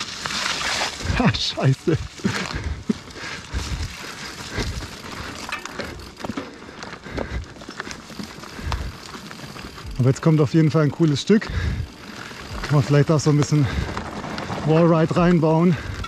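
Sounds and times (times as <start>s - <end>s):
bike clicks and rattles: 0.0s - 16.0s
tyres crunching on twigs: 0.0s - 16.0s.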